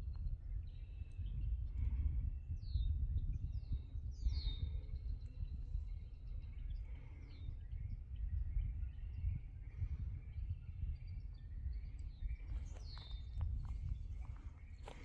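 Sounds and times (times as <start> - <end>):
constant low rumble: 0.0 - 15.0.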